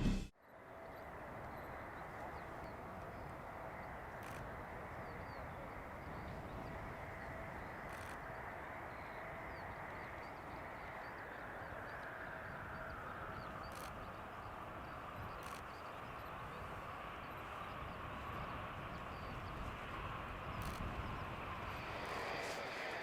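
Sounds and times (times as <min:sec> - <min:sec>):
distant jet engine rush: 0:00.0 - 0:23.0
small birds chirping: 0:00.8 - 0:23.0.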